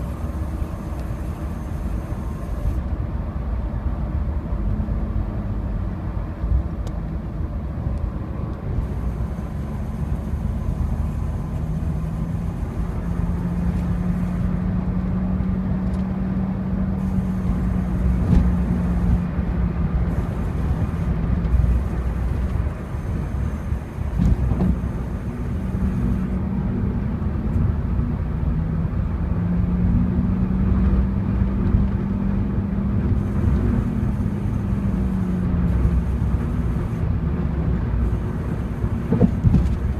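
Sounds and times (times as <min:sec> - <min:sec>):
road and engine drone: 0:00.0 - 0:39.9.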